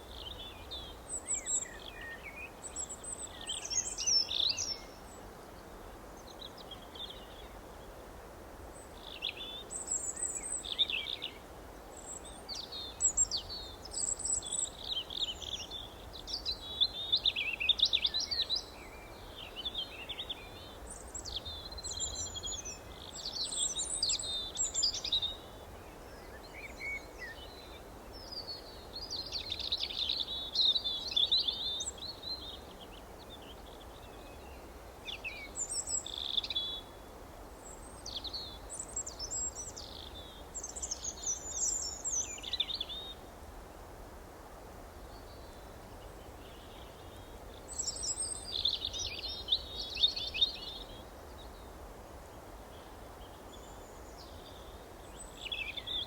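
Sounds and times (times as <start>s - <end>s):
faint steady background hiss: 0.0s - 56.0s.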